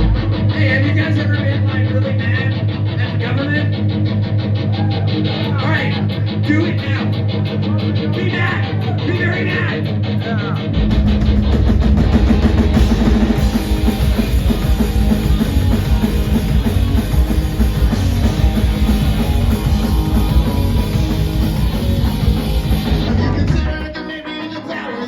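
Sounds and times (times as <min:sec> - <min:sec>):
live punk rock band: 0:00.0 - 0:25.0.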